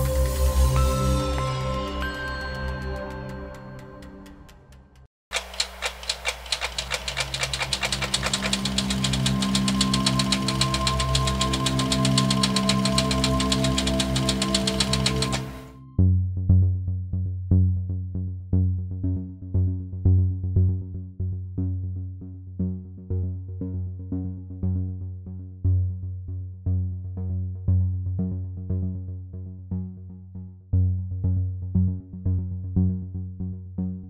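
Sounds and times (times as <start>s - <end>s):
instrumental background music: 0.0s - 5.1s, 7.0s - 34.0s.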